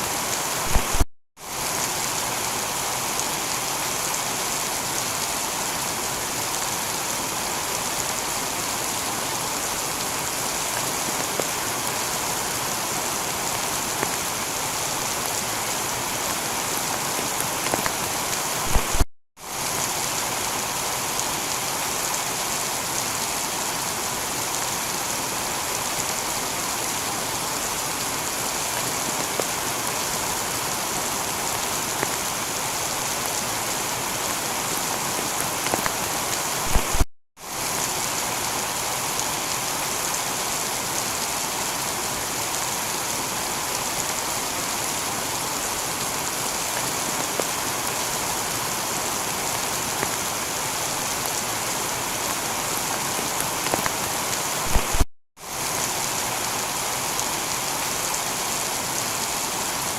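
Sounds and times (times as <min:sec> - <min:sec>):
heavy rain on a tiled roof: 0:00.0 - 0:59.9.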